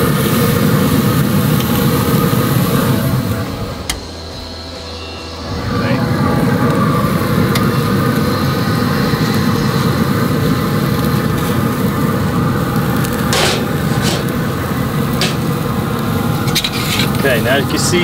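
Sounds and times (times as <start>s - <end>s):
grill low rushing noise: 0.0s - 18.0s.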